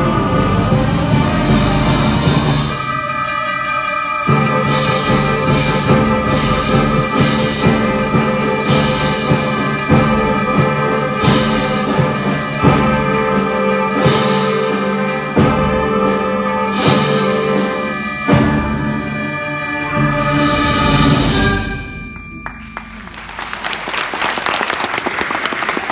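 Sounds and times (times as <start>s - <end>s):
concert band playing: 0.0s - 25.9s.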